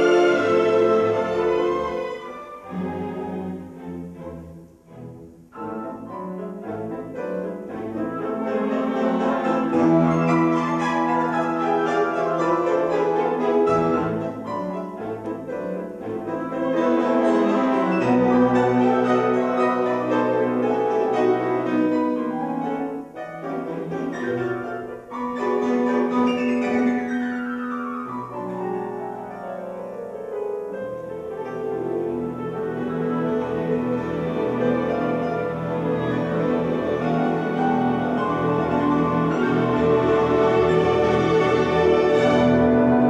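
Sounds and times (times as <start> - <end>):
bowed strings: 0.0 - 30.1, 31.1 - 43.0
grand piano playing: 0.0 - 43.0.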